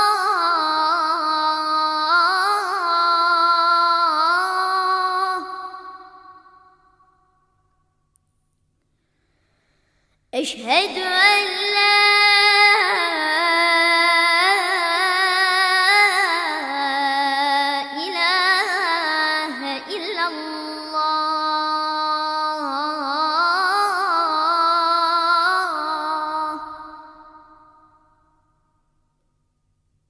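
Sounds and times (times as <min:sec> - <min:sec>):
boy chanting call to prayer: 0:00.0 - 0:06.8, 0:10.4 - 0:27.8.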